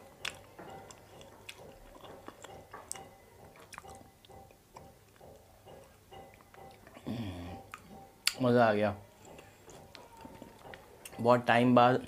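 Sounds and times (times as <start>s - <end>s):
person chewing frozen dessert: 0.0s - 8.4s, 9.3s - 11.2s.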